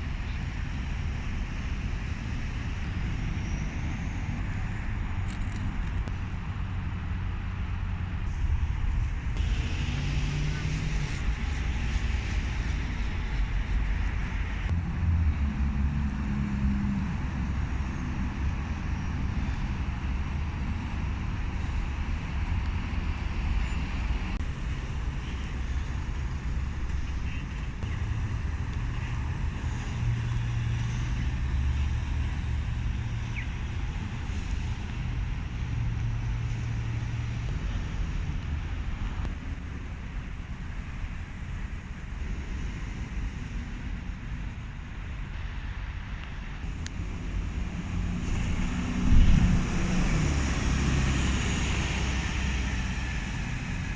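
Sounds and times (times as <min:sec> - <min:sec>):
heavy engines rumbling: 0:00.0 - 0:53.9
road traffic: 0:00.0 - 0:53.9.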